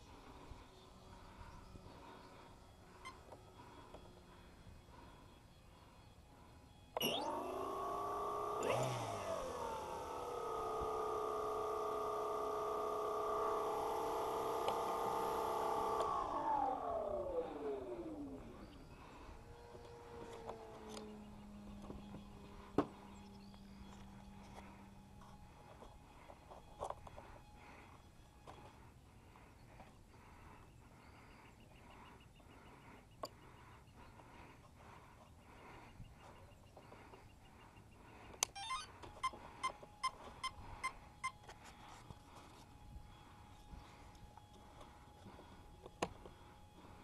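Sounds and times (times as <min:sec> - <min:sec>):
electric motor whine winding down: 0:00.0 - 0:47.0
faint steady hum: 0:00.0 - 0:47.0.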